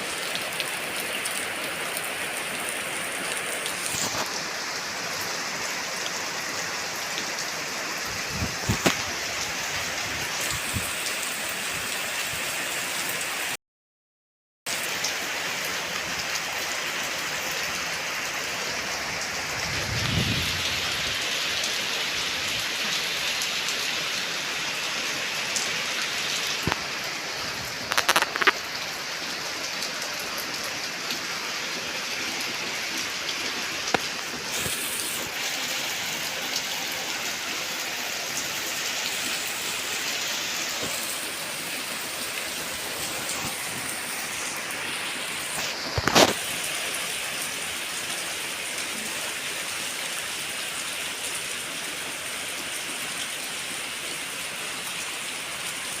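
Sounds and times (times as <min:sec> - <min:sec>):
heavy rain falling: 0:00.0 - 0:13.6, 0:14.7 - 0:56.0.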